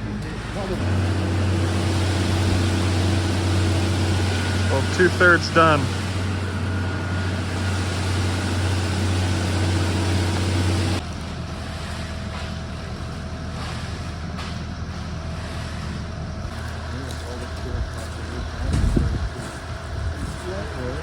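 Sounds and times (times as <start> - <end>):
diesel truck engines droning: 0.0 - 21.0.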